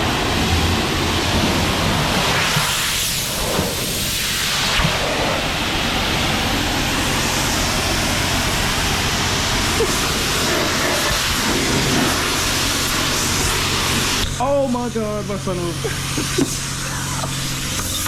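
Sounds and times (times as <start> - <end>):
water spray hissing on car: 0.0 - 18.0.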